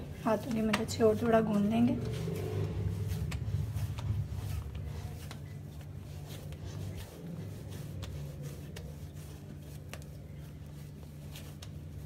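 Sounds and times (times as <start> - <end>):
hands kneading dough: 0.0 - 12.0
steady low hum: 0.0 - 12.0.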